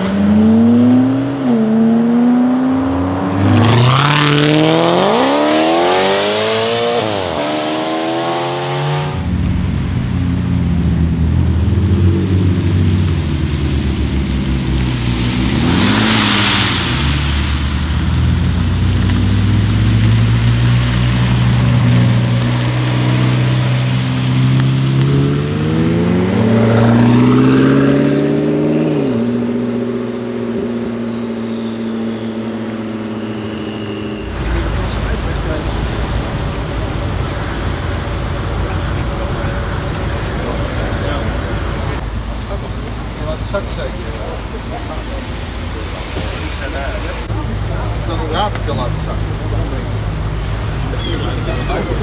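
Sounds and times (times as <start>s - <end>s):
sports car engine pulling away: 0.0s - 52.0s
loud rush of noise: 2.9s - 52.0s.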